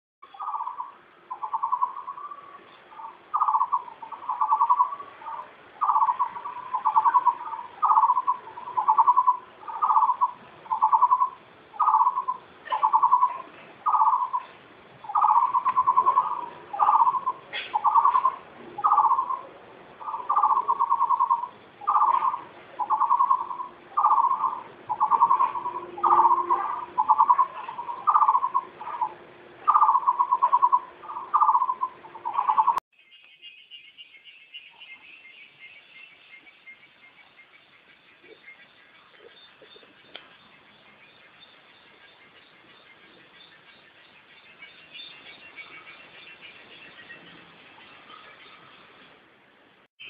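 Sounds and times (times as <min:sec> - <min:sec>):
bird calling pulsed note: 0:00.2 - 0:48.8.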